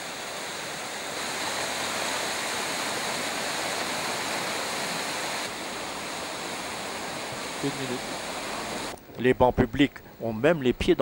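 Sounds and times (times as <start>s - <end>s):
water rushing over sluices: 0.0s - 9.0s.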